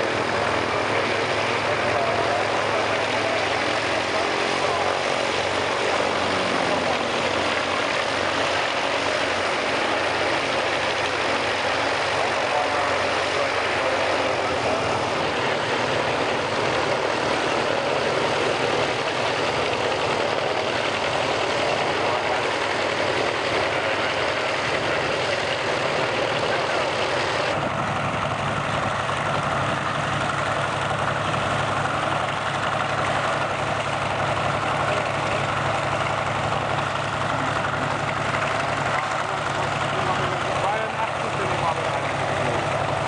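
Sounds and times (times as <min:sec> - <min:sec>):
radial aircraft engine running: 0:00.0 - 0:43.0.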